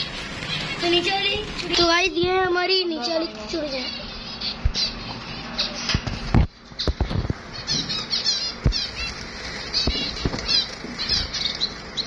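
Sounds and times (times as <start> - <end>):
small birds chirping: 0.0 - 12.0
wings fluttering: 0.0 - 12.0.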